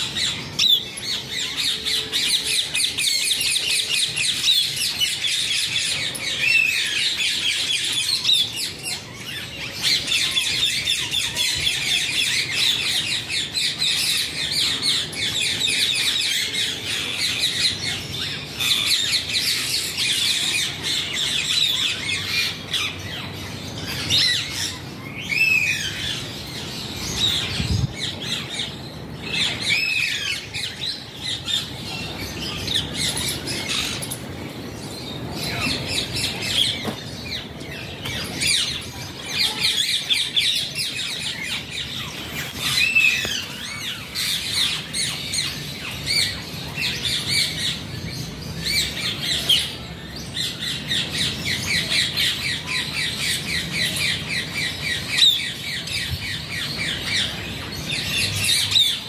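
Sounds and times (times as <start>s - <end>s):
parakeets squawking: 0.0s - 59.0s.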